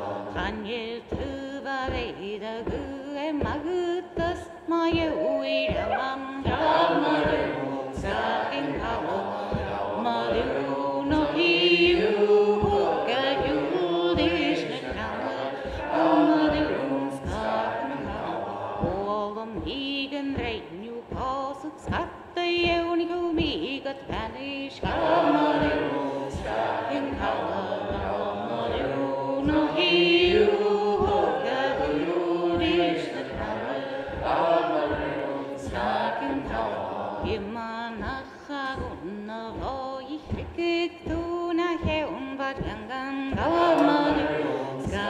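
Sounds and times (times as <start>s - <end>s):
group call-and-response singing: 0.0s - 45.0s
wet cloth pounded on table: 0.3s - 45.0s.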